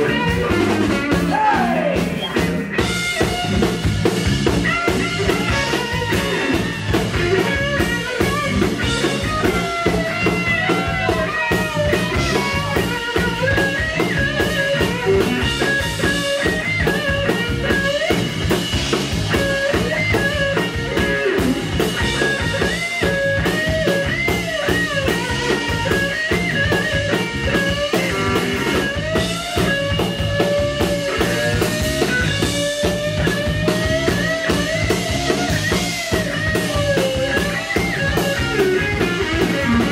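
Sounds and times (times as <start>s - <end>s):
drum kit: 0.0s - 39.9s
electric bass: 0.0s - 39.9s
lead electric guitar: 0.0s - 39.9s.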